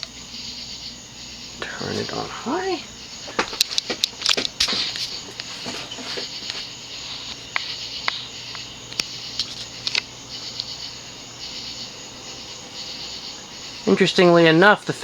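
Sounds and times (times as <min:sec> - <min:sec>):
ceiling fan air rushing: 0:00.0 - 0:15.0
fan motor hum: 0:00.0 - 0:15.0.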